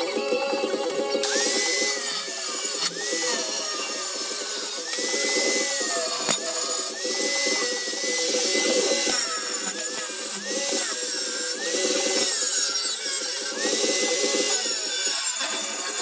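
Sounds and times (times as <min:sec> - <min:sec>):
angle grinder grinding metal: 0:00.0 - 0:16.0.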